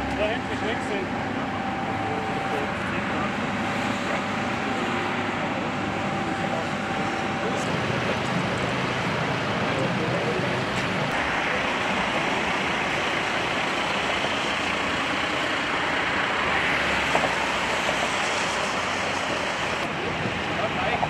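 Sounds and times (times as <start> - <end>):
motorway traffic passing: 0.0 - 21.0
tyres hissing on wet road: 2.3 - 21.0.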